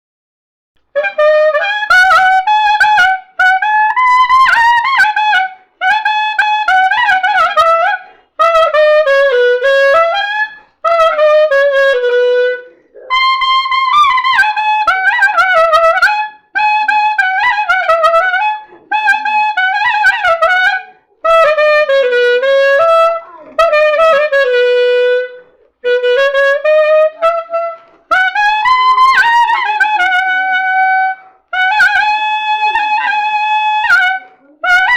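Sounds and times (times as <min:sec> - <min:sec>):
solo clarinet melody: 0:00.8 - 0:34.9.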